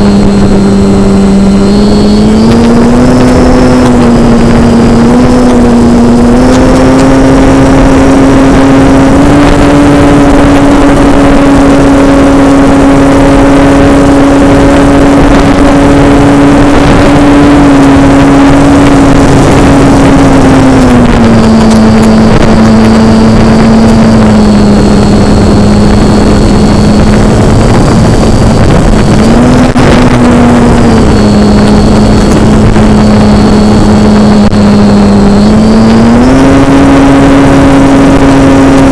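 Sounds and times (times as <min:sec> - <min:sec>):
model airplane motor droning: 0:00.0 - 0:38.9
rushing air: 0:00.0 - 0:38.9.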